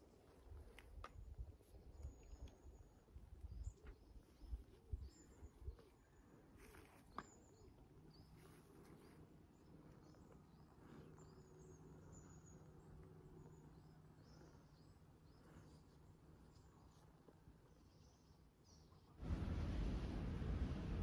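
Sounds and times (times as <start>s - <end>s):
faint birdsong chirps: 0.0s - 19.2s
low steady hum: 0.0s - 21.0s.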